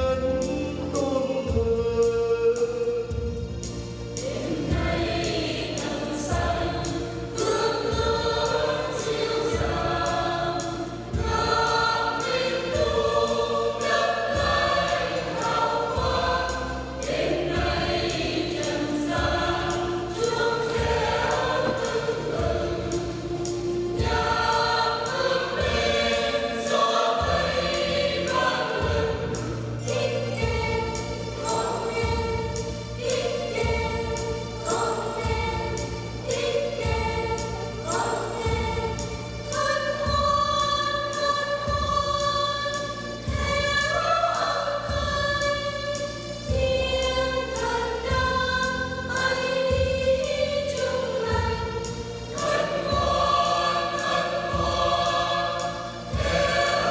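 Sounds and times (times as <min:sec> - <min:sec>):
choir singing a hymn: 0:00.0 - 0:56.9
instrumental accompaniment: 0:00.0 - 0:56.9.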